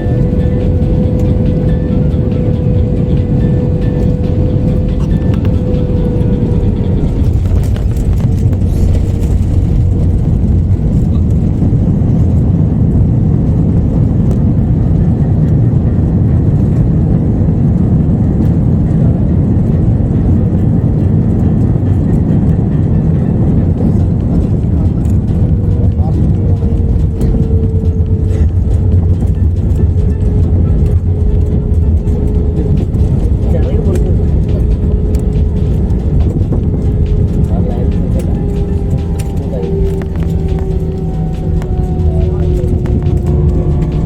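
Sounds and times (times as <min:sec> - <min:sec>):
airliner cabin engine rumble: 0:00.0 - 0:44.0.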